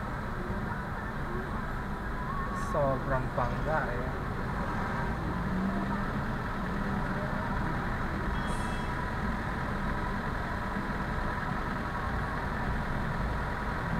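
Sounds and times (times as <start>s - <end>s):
vehicle engine idling: 0.0s - 13.9s.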